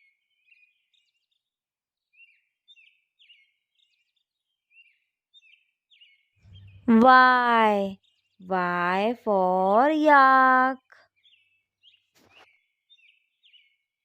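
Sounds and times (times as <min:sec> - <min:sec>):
faint bird chirps: 0:00.0 - 0:08.5, 0:10.8 - 0:14.0.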